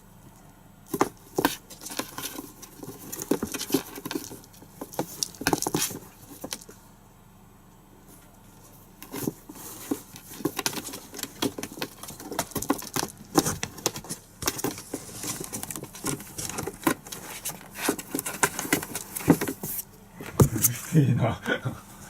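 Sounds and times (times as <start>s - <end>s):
kittens' paws pattering: 0.8s - 6.9s, 8.1s - 20.8s.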